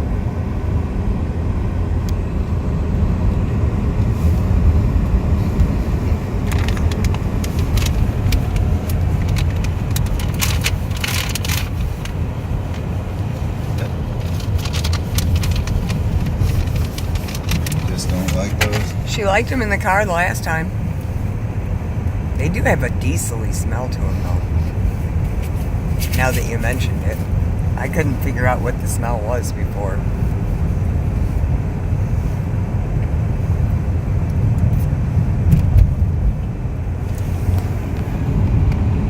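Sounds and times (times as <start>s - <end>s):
tyre and engine rumble: 0.0s - 39.0s.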